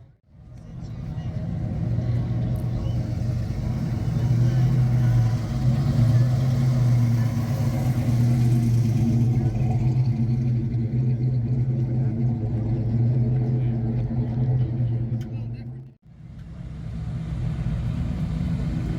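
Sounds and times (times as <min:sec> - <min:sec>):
car engine idling: 0:00.4 - 0:18.9.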